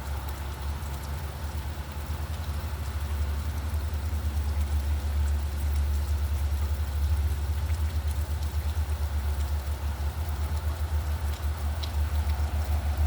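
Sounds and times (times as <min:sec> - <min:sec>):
faint rain patter: 0:00.0 - 0:13.0.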